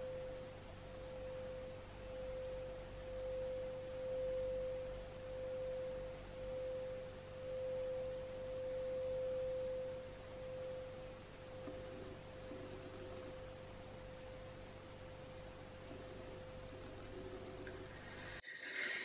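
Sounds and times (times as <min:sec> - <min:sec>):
singing bowl pure tone: 0:00.0 - 0:18.4.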